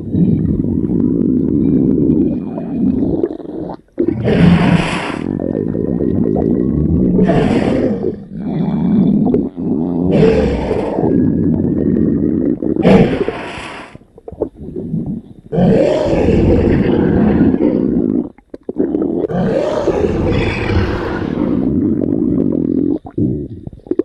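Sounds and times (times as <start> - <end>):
cartoon stomach growl: 0.0 - 24.0.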